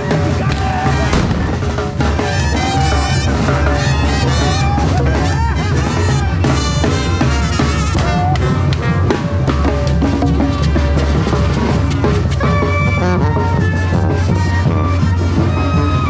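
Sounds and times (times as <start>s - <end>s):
bass drum with cymbal: 0.0s - 16.0s
conga: 0.0s - 16.0s
tuba and horns: 0.0s - 16.0s
snare drum: 0.1s - 13.3s.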